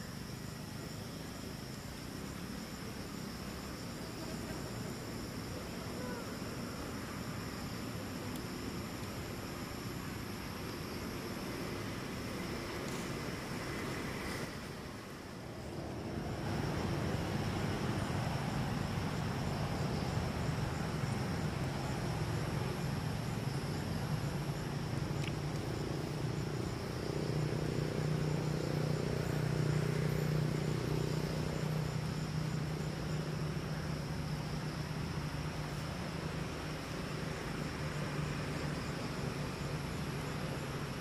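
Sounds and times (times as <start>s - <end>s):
insect chirring: 0.0s - 41.0s.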